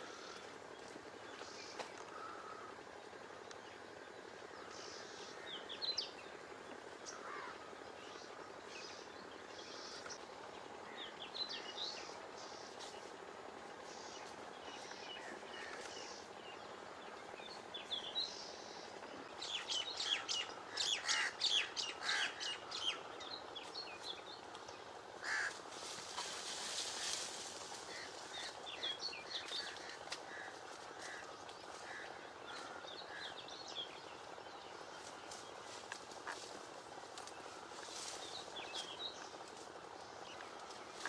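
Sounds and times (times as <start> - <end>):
birds chirping and calling: 0.0 - 41.0
outdoor background noise: 0.0 - 41.0.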